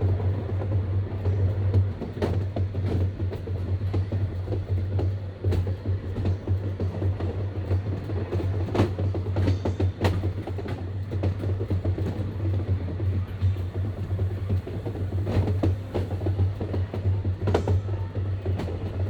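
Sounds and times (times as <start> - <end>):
electric train hum: 0.0 - 19.0
wheels clicking on track: 0.0 - 19.0.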